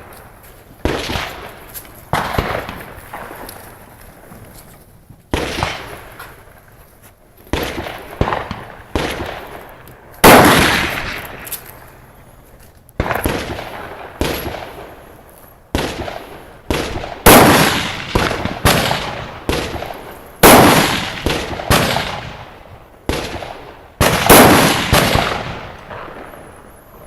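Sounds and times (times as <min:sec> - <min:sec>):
rifle gunshots with echo: 0:00.8 - 0:04.0, 0:05.3 - 0:06.6, 0:07.5 - 0:12.2, 0:13.0 - 0:27.0.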